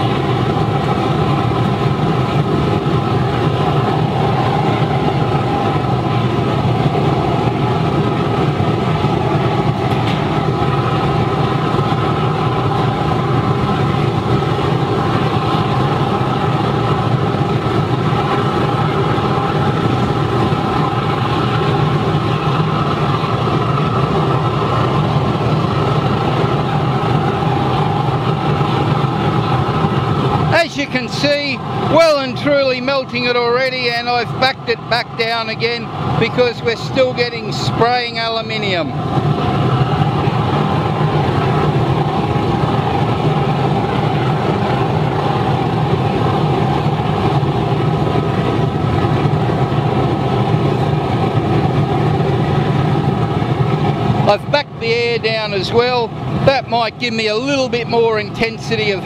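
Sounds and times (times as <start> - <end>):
burner flame rushing: 0.0 - 59.0
constant hum: 0.0 - 59.0.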